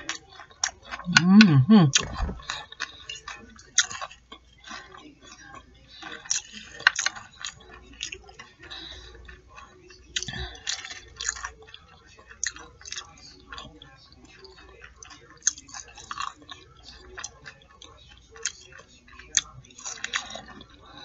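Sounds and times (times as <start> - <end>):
mouth chewing wet food: 0.0 - 21.0.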